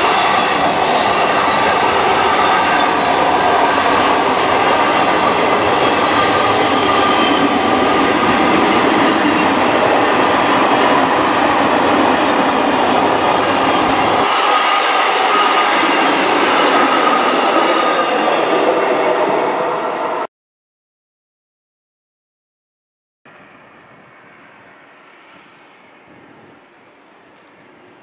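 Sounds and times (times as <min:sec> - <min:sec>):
freight train wheels on rails: 0:00.0 - 0:20.3, 0:23.3 - 0:28.0.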